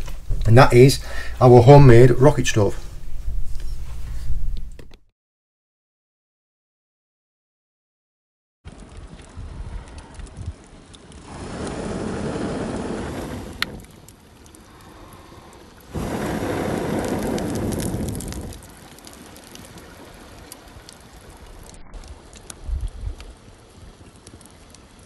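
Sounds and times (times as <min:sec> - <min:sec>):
wood fire crackling: 0:00.0 - 0:04.8, 0:08.7 - 0:25.0.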